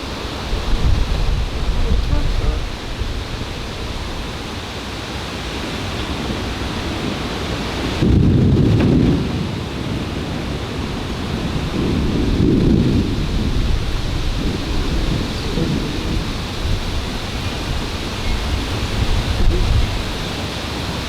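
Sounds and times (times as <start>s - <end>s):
thunder rumbling: 0.0s - 4.6s, 5.8s - 21.0s
steady rain: 0.0s - 21.0s.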